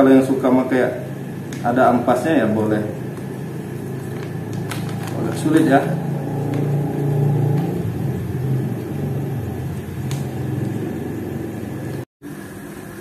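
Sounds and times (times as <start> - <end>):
low engine-like hum: 0.3 - 12.0.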